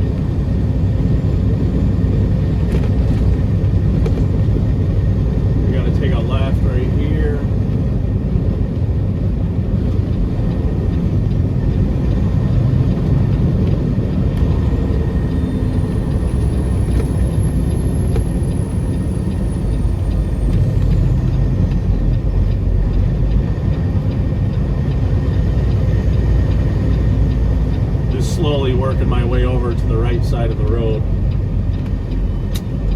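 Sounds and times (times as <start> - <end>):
road noise: 0.0 - 32.9
truck diesel engine running: 0.0 - 32.9.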